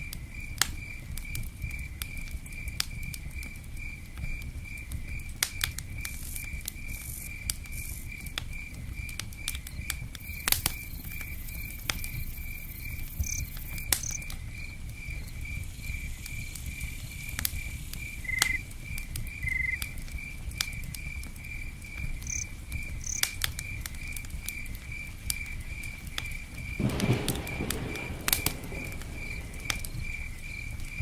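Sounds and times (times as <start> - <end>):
campfire crackling and popping: 0.0 - 31.0
cricket chirping: 0.0 - 31.0.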